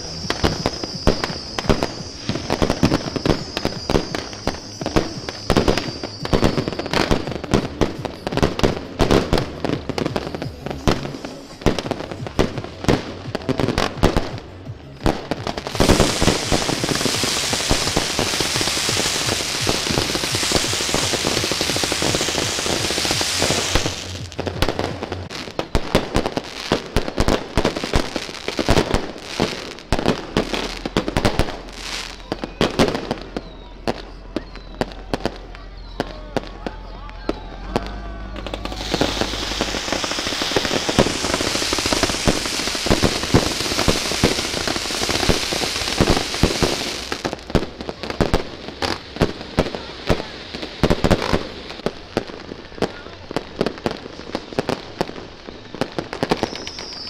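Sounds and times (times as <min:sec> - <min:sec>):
firecrackers banging and crackling: 0:00.0 - 0:57.0
firework fountain hissing: 0:00.0 - 0:57.0.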